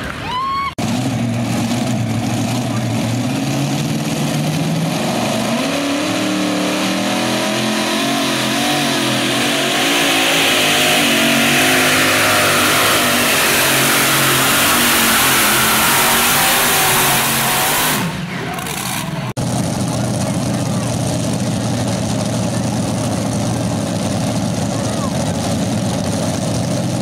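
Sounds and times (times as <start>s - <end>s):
pulling tractor engines at full throttle: 0.0s - 27.0s.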